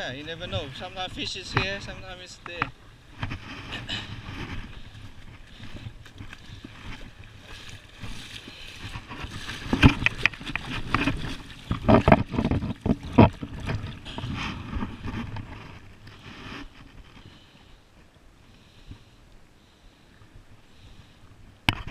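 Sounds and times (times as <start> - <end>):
water sloshing and splashing: 0.0 - 19.1.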